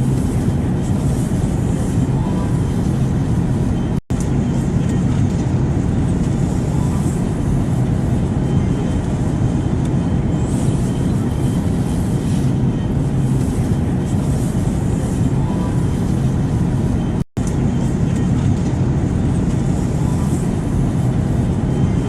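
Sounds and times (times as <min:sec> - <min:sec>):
airplane rumble: 0:00.0 - 0:22.0.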